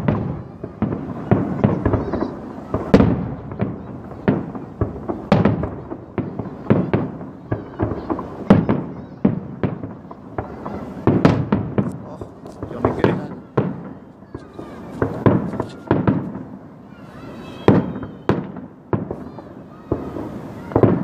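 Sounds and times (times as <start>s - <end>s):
fireworks bursting: 0.0s - 21.0s.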